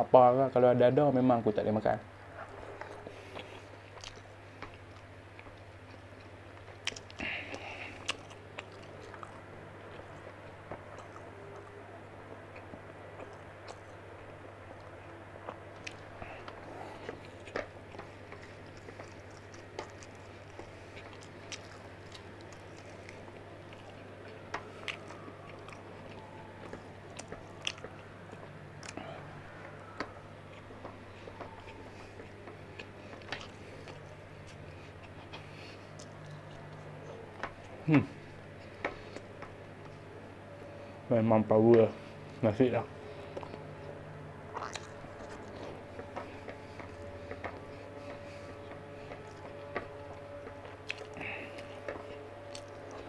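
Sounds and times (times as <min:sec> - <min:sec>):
steady low hum: 0:00.0 - 0:53.0
man chewing and crunching food: 0:02.1 - 0:53.0.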